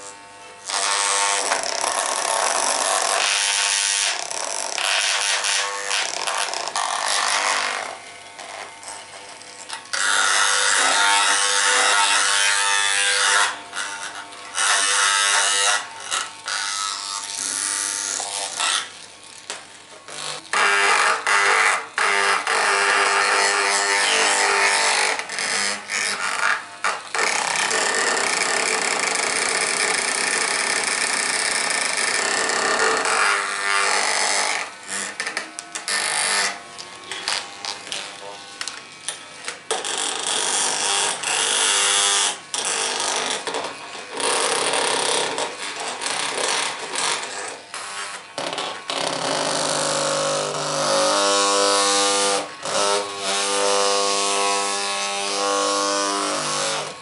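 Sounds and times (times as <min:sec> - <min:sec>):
small electric motor buzzing: 0:00.0 - 0:57.0.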